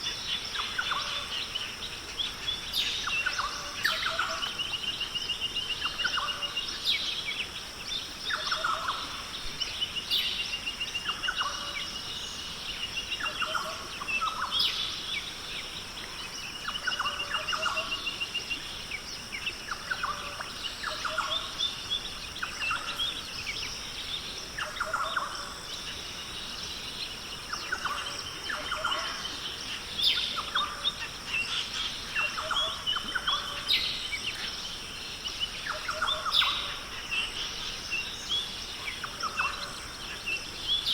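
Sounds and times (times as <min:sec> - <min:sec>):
birds calling and trilling: 0:00.0 - 0:40.9.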